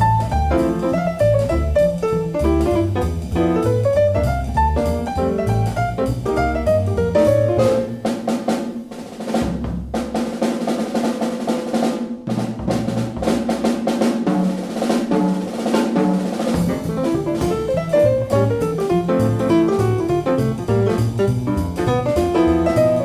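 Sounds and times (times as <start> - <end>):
jazz drum solo: 0.0 - 23.0.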